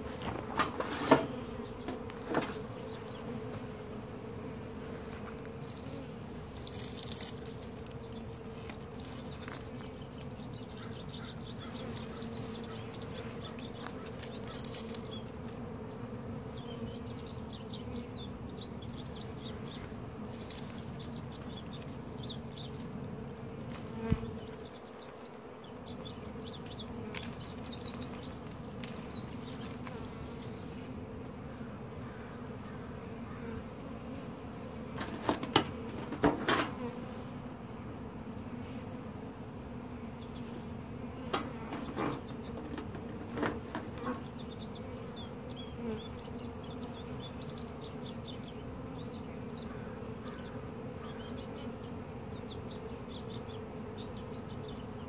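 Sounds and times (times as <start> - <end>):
bee swarm buzzing: 0.0 - 55.0.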